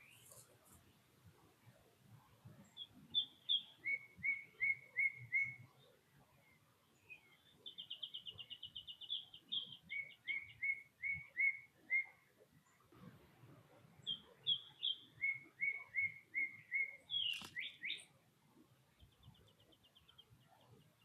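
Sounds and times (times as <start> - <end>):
songbird singing: 0.0 - 0.8, 1.6 - 12.9, 13.7 - 21.0.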